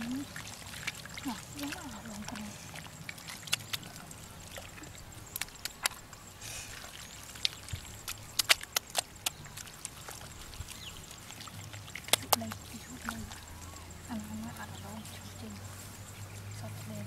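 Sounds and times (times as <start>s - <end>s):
wet mud squelching: 0.0s - 17.0s.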